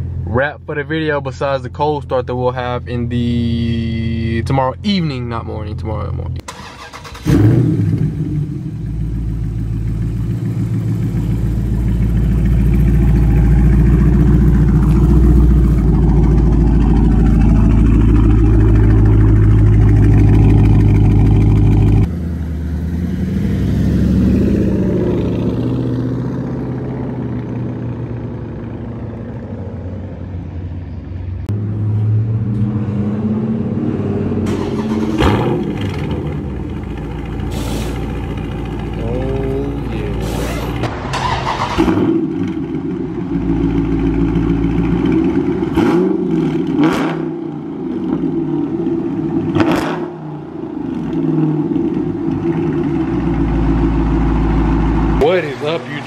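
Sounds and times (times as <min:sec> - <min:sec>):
loud deep car exhaust: 0:07.2 - 0:29.8, 0:31.4 - 0:40.9, 0:41.8 - 0:56.0.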